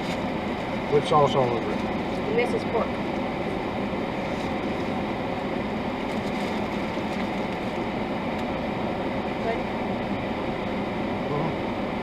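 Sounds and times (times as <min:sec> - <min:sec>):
car running inside cabin: 0:00.0 - 0:12.0.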